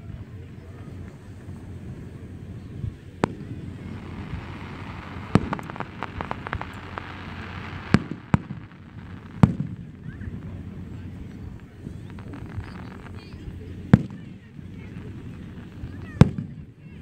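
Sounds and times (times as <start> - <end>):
firework crackles: 0.0 - 17.0
firework shells bursting: 3.1 - 16.7.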